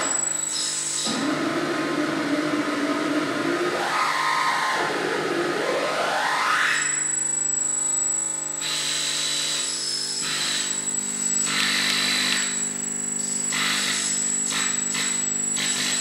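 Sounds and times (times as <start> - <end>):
electronic buzzing tone: 0.0 - 16.0
thin high whine: 0.0 - 16.0.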